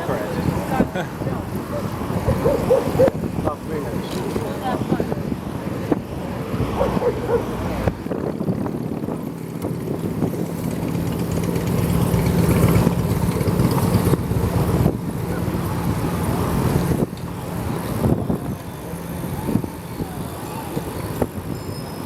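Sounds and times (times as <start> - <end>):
motor vehicle engine humming: 0.0 - 22.0
street noise: 0.0 - 22.0.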